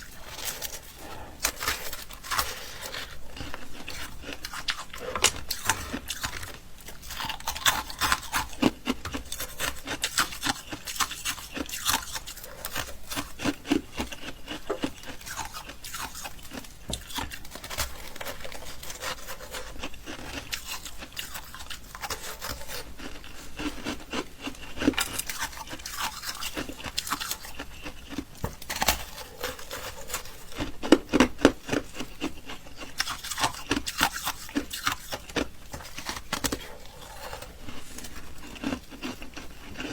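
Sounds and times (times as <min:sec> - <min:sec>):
chewing ice: 0:00.0 - 0:39.9.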